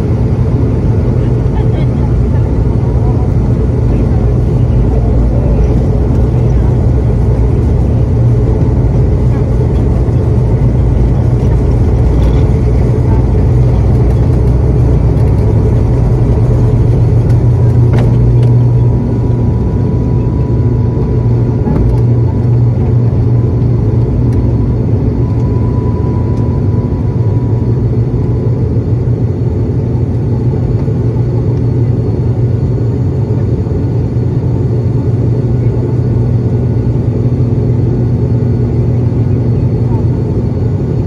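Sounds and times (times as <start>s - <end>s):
propeller drone with deep hum: 0.0s - 41.0s.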